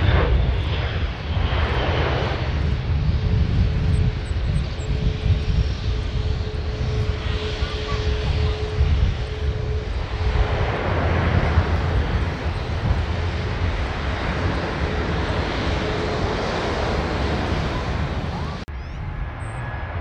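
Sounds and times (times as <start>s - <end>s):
jet taxiing: 0.0s - 20.0s
turboprop engines roaring: 0.0s - 20.0s.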